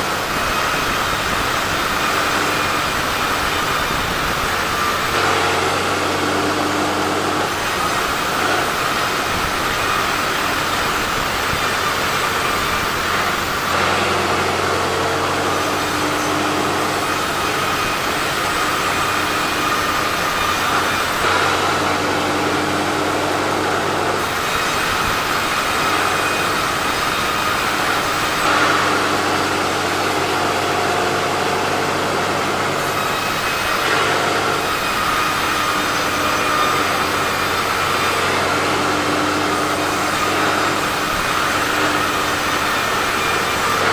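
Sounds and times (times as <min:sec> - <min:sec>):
sawmill saw cutting logs: 0:00.0 - 0:43.9.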